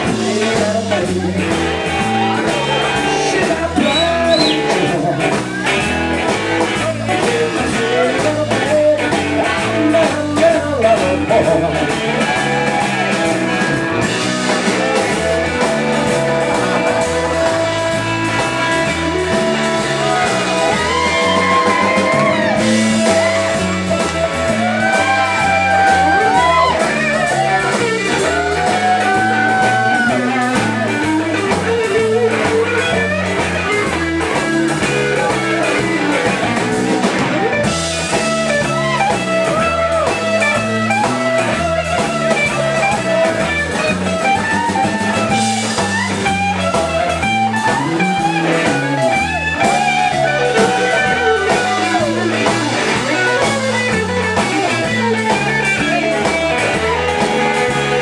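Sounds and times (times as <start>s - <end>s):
blues-rock band playing: 0.0s - 58.0s
electric guitar bending long notes: 0.0s - 58.0s.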